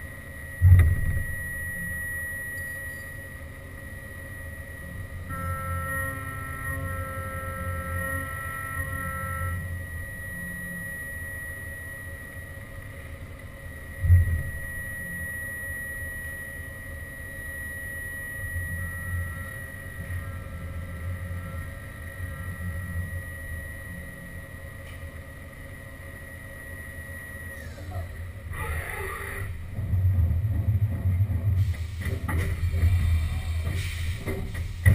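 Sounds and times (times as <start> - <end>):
cnc mill whine and rumble: 0.0 - 34.9.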